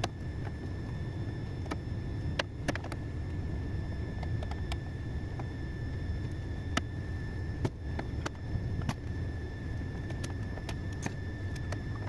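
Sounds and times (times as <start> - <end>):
air conditioning machinery hum: 0.0 - 12.0
high-pitched machine whine: 0.0 - 12.0.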